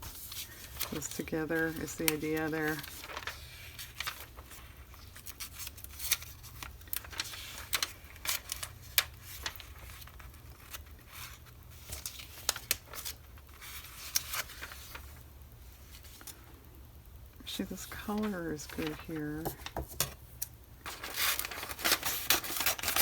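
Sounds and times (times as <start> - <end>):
paper rustling and crinkling: 0.0 - 16.5, 17.8 - 23.0
paper clicks and snips: 0.2 - 15.0, 18.2 - 23.0.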